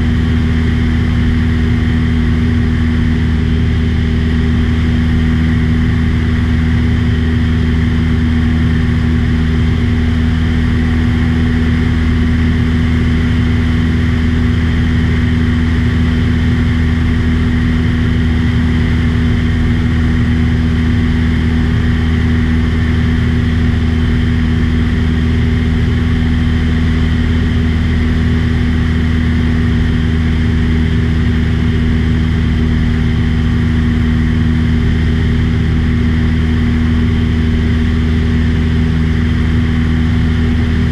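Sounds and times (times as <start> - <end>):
propeller aircraft engine droning: 0.0 - 40.9.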